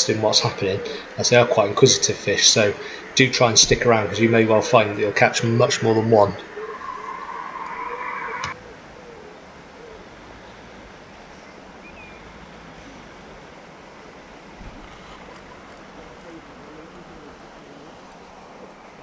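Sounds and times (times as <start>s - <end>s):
faint chirps: 0.0s - 19.0s
outdoor background hiss: 0.0s - 19.0s.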